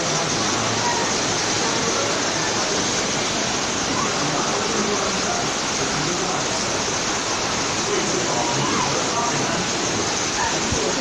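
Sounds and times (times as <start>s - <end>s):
faint voices: 0.0s - 11.0s
rushing water: 0.0s - 11.0s.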